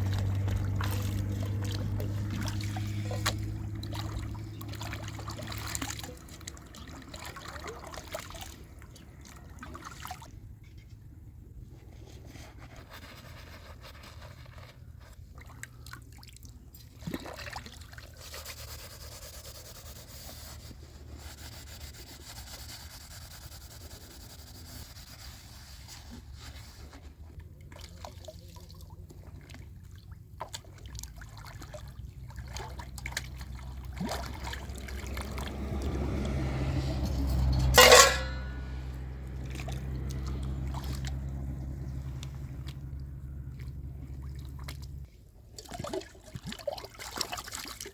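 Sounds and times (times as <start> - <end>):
water trickling and splashing: 0.0 - 11.0, 14.1 - 47.9.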